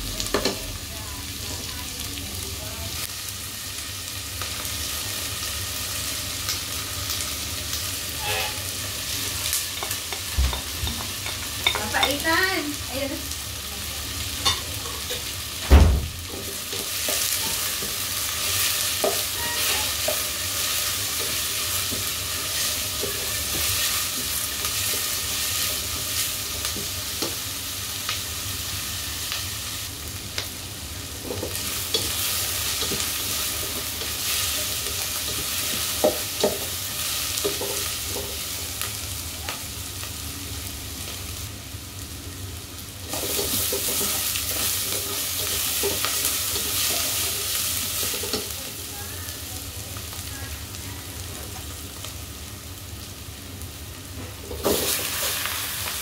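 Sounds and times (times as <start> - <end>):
onions sizzling in hot oil: 0.0 - 56.0.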